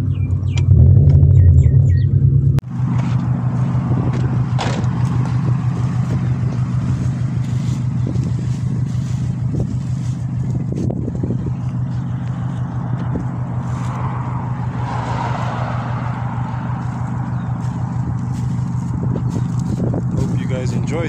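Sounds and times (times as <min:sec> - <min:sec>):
car engine exhaust rumble: 0:00.0 - 0:21.0.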